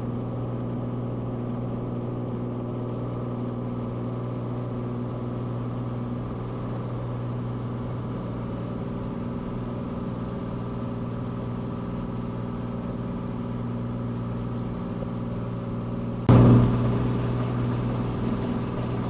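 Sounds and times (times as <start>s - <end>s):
aircraft engine and propeller drone: 0.0s - 19.0s.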